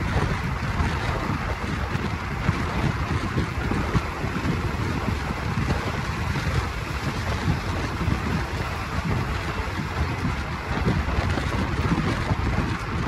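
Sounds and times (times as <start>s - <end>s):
moving train rumble: 0.0s - 13.0s
wind buffeting microphone: 0.0s - 13.0s.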